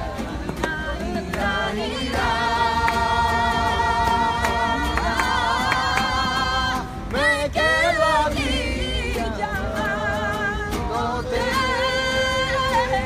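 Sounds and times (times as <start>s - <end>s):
acoustic guitar strums: 0.0s - 13.0s
choir singing: 0.0s - 13.0s.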